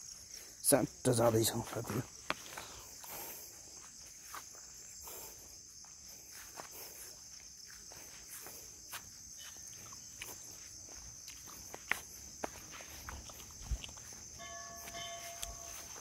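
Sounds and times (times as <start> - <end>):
insects chirring: 0.0 - 16.0
footsteps on ground: 1.2 - 16.0.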